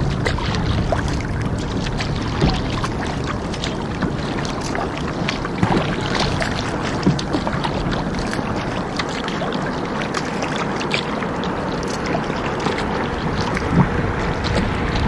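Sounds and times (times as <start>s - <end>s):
paddle splashes and drips: 0.0s - 15.0s
water noise: 0.0s - 15.0s
wind rumbling on microphone: 0.0s - 15.0s.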